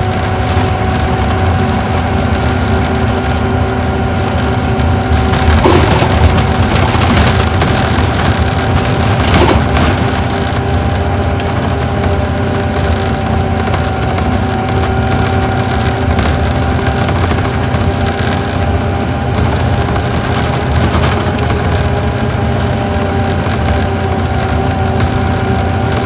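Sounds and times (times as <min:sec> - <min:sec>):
coach engine cruising: 0:00.0 - 0:26.0
road noise: 0:00.0 - 0:26.0.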